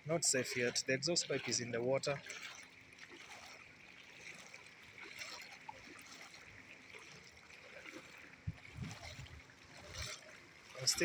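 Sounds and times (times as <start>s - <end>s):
small splashes: 0.0s - 11.0s
wading through floodwater: 0.0s - 11.0s
water trickling: 0.0s - 11.0s.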